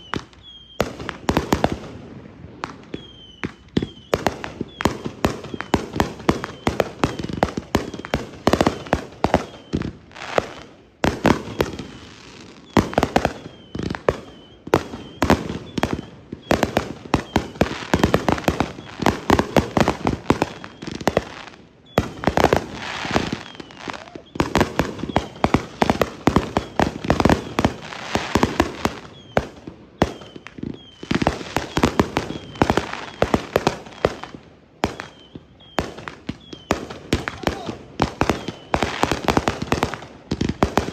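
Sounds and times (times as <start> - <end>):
fireworks barrage: 0.0 - 40.9.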